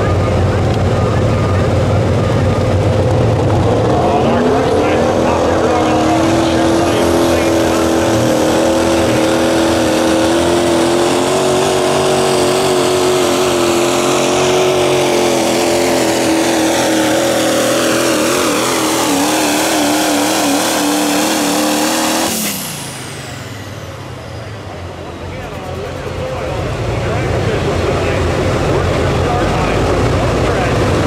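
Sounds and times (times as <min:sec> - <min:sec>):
diesel truck engine under full load: 0:00.0 - 0:31.0.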